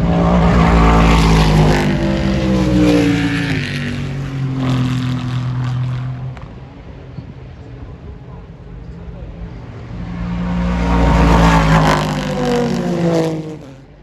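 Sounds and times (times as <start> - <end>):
race car passing at speed: 0.0 - 7.6, 9.0 - 14.0.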